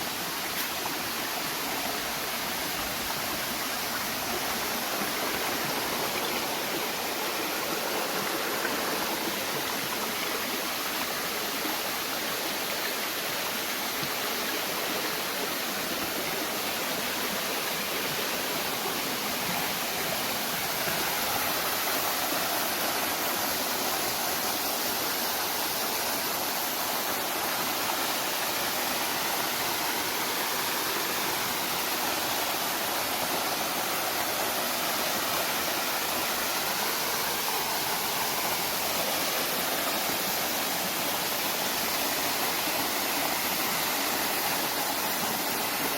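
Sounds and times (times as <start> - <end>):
flowing water rushing: 0.0 - 45.9.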